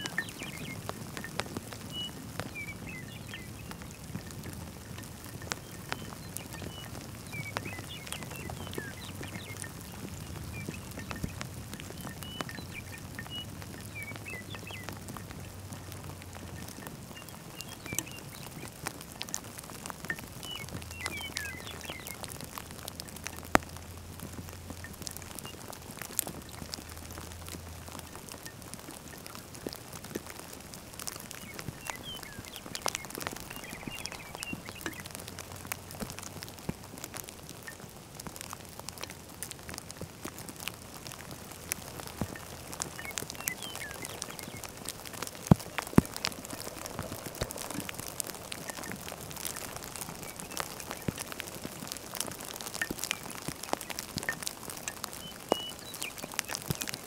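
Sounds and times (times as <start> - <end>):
bird chirps: 0.0 - 19.4, 20.0 - 23.5, 24.4 - 29.4, 31.0 - 36.4, 41.8 - 57.0
low wind rumble: 0.0 - 56.9
raindrops ticking on microphone: 0.0 - 57.0.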